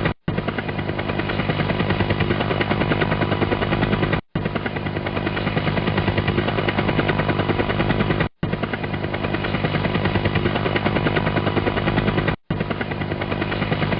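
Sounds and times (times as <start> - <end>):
helicopter engine drone: 0.0 - 13.9
helicopter rotor chopping: 0.0 - 13.9.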